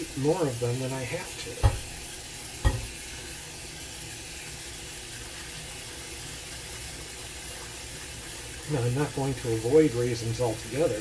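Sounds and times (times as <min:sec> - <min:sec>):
faucet water running: 0:00.0 - 0:11.0.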